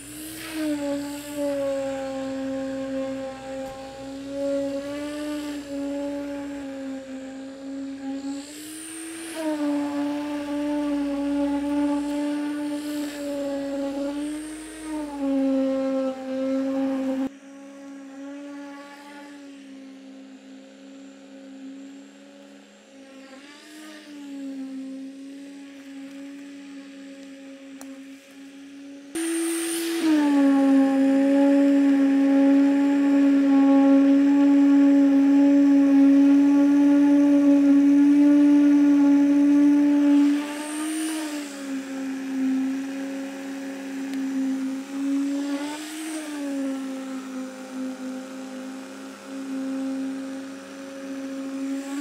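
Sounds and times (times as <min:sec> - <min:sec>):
concrete vibrator humming: 0:00.0 - 0:52.0.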